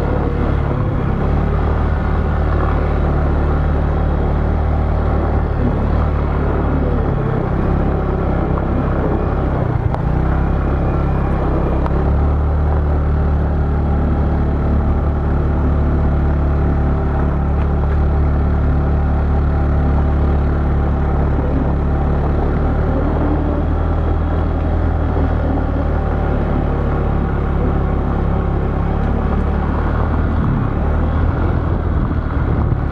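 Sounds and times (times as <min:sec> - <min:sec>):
road and wind noise: 0:00.0 - 0:32.9
vehicle engine running: 0:00.0 - 0:32.9.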